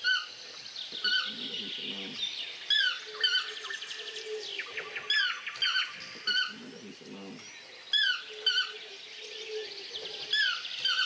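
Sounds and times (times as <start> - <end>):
forest birds trilling: 0.0 - 11.0.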